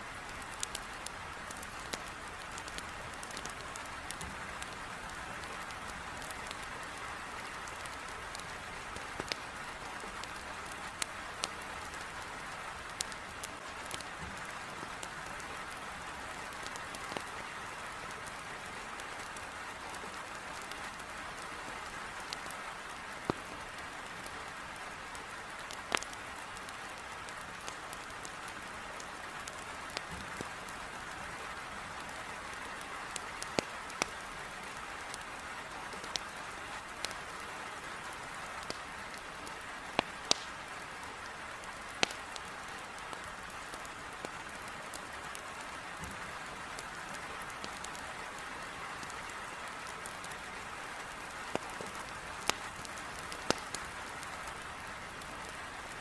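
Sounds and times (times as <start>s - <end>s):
heavy rain on a window: 0.0s - 56.0s
wood fire crackling: 0.0s - 56.0s.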